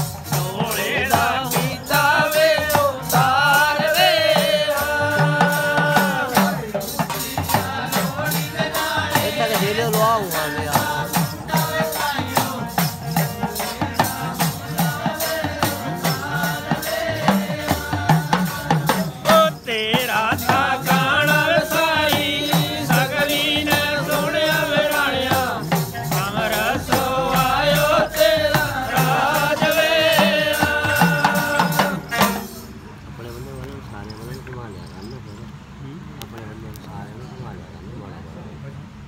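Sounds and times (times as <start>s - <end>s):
drum: 0.0s - 32.8s
fast rattling beat: 0.0s - 32.8s.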